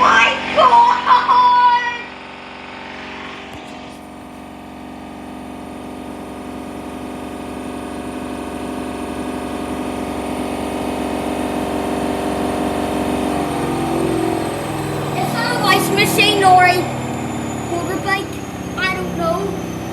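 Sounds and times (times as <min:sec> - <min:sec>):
washing machine motor whining: 0:00.0 - 0:19.9.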